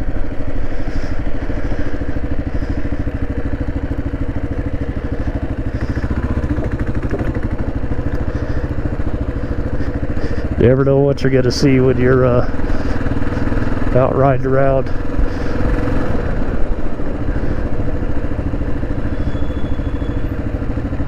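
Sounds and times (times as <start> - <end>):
motorcycle engine cruising: 0.0 - 21.0.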